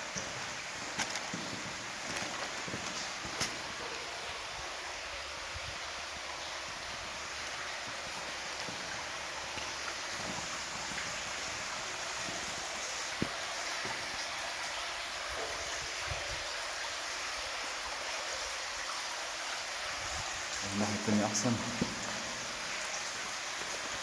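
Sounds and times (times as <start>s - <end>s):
stream water flowing: 0.0s - 24.0s.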